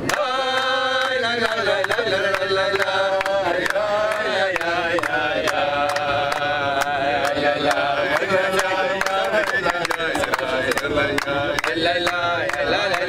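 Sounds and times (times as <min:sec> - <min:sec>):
rhythmic hand clapping: 0:00.0 - 0:13.0
voices singing together: 0:00.0 - 0:13.0.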